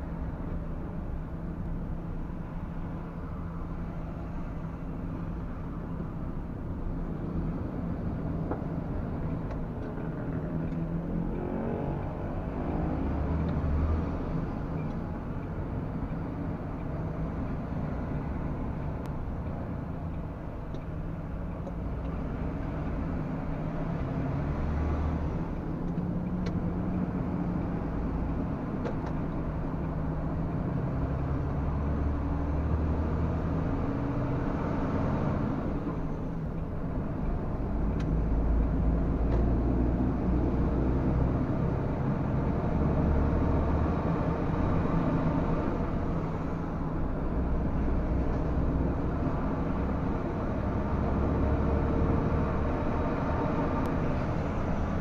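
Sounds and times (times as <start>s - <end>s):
road noise: 0.0s - 55.0s
truck diesel engine droning: 0.0s - 55.0s.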